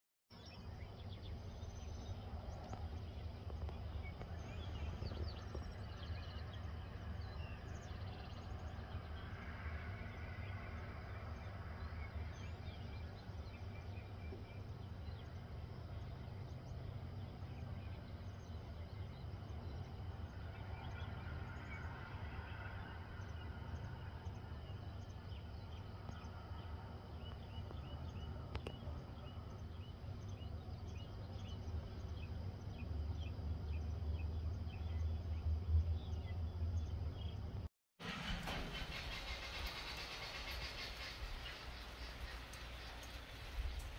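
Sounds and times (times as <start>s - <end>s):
birds chirping: 0.3s - 21.9s, 23.1s - 43.9s.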